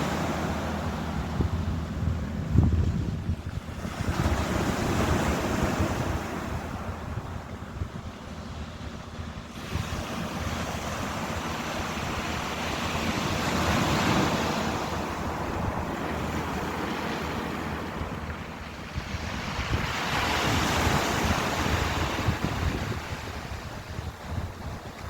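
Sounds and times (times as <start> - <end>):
ocean waves breaking: 0.0 - 25.0
wind rumble on microphone: 0.0 - 25.0.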